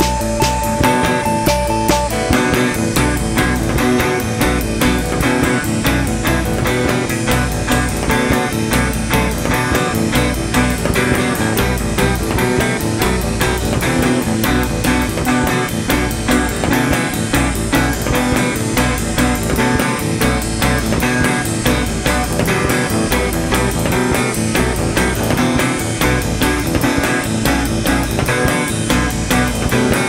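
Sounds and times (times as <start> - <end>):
rock music with guitar and bass: 0.0 - 30.0.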